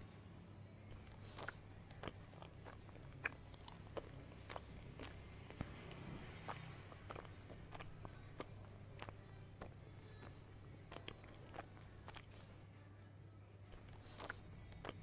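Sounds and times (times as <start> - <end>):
low steady hum: 0.0 - 15.0
crisp chewing crunches: 0.9 - 12.6, 13.8 - 15.0
wet mouth clicks: 0.9 - 12.6, 13.8 - 15.0.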